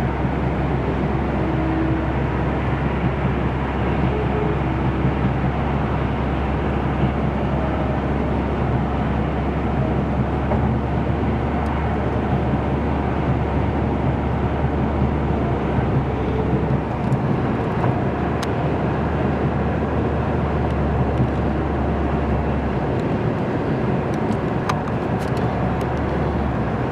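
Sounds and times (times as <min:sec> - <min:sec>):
car road and tyre noise: 0:00.0 - 0:26.9.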